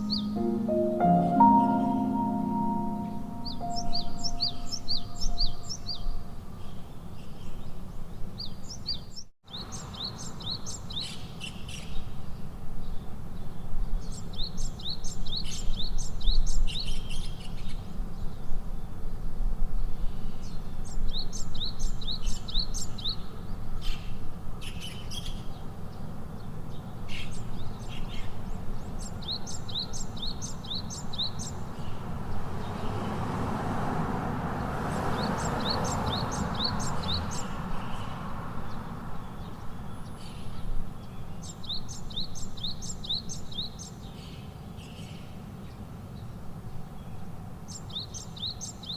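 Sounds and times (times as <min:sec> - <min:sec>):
bird chirping song: 0:00.0 - 0:19.0, 0:20.0 - 0:33.2, 0:35.0 - 0:48.9.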